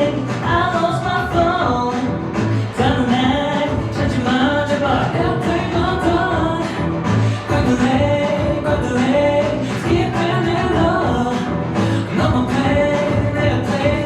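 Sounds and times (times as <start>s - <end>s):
pop song with singing: 0.0s - 14.0s.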